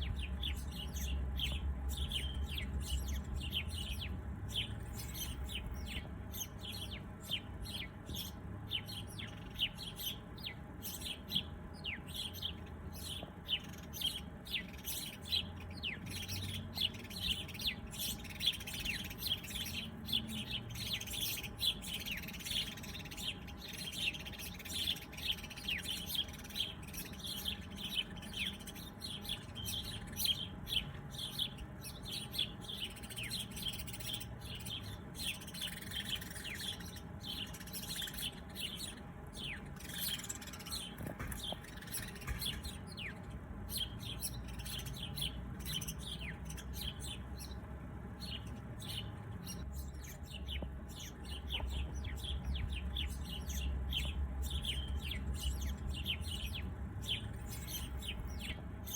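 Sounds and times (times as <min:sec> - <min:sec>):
low background hum: 0:00.0 - 0:58.9
songbirds chirping and twittering: 0:00.0 - 0:58.9.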